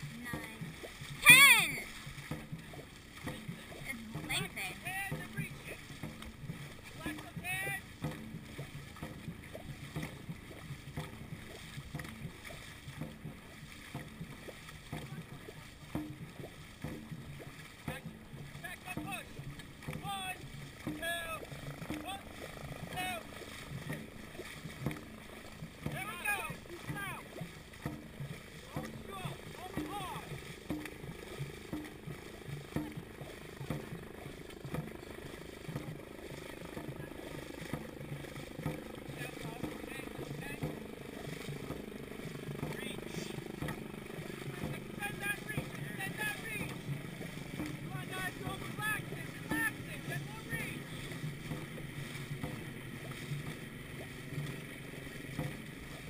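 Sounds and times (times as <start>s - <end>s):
paddles splashing water: 0.0s - 56.0s
rushing water: 0.0s - 56.0s
wind: 0.0s - 56.0s.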